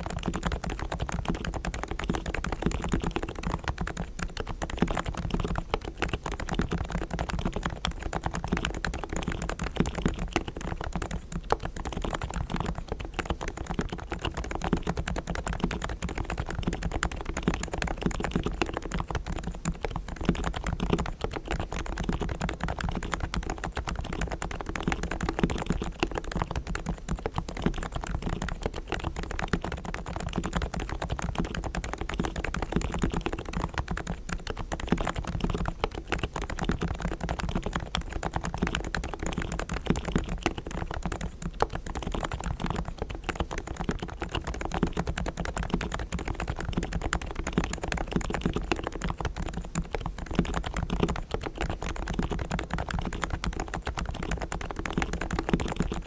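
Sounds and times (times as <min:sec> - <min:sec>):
rapid keyboard typing: 0:00.0 - 0:56.0.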